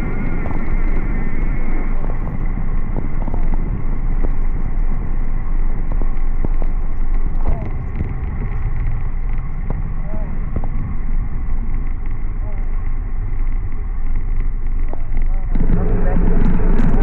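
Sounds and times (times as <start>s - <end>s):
road noise: 0.0s - 17.0s
wind rumble on microphone: 0.0s - 17.0s.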